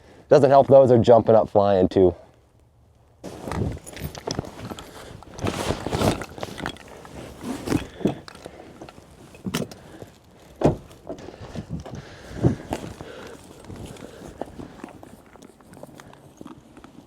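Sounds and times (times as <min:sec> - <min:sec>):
rustling of people moving: 0:00.3 - 0:17.0.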